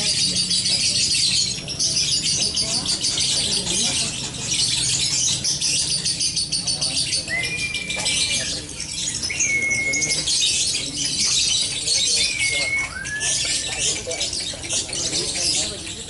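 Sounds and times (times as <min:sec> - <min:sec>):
songbirds singing and chirping: 0:00.0 - 0:16.0.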